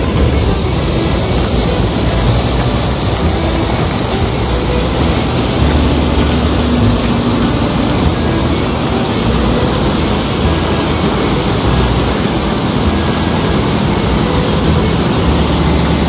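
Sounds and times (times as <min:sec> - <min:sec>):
water gushing into a channel: 0:00.0 - 0:16.0.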